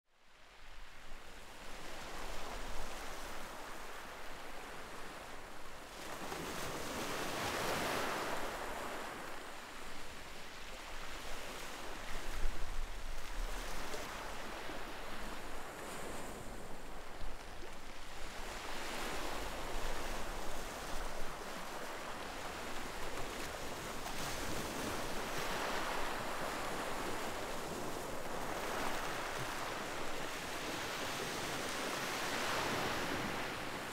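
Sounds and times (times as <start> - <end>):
waves breaking on beach: 0.4 - 33.9.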